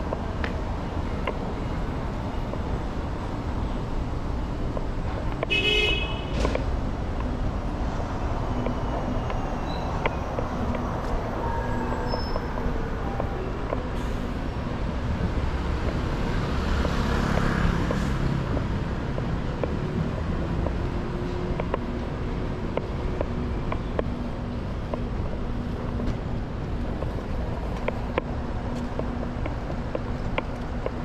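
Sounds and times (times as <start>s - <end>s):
rumble of passing traffic: 0.0s - 31.0s.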